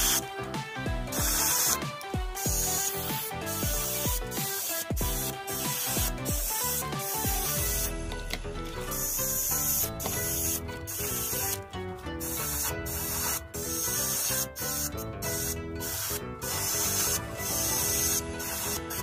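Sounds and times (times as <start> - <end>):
paint spray hiss: 0.0 - 8.0, 8.8 - 11.6, 12.2 - 19.0
background music held chords: 0.0 - 19.0.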